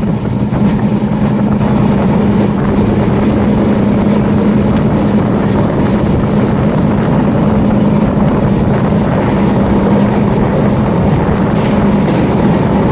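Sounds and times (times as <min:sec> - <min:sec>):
constant low hum: 0:00.0 - 0:12.9
train running along track: 0:00.0 - 0:12.9
wind rushing over microphone: 0:00.0 - 0:12.9.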